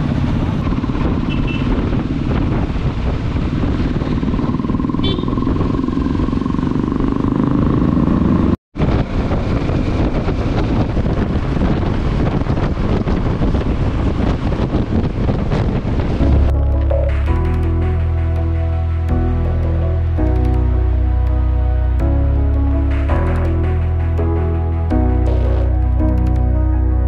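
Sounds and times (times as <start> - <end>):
motorcycle engine: 0.0 - 26.5
wind rushing noise: 0.0 - 27.0.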